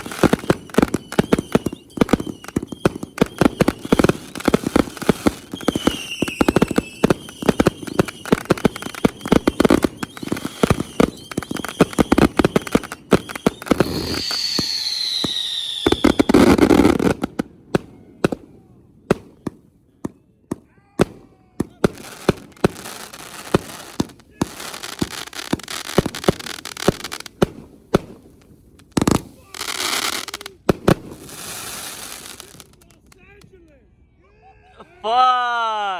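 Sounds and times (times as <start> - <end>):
fireworks whistling: 0.0 - 18.4, 21.0 - 32.8
fireworks bangs and crackling: 0.0 - 33.5.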